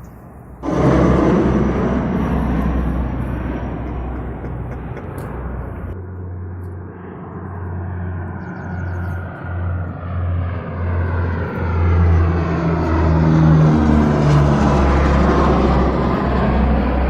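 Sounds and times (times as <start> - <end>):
military jet approaching: 0.0 - 17.0.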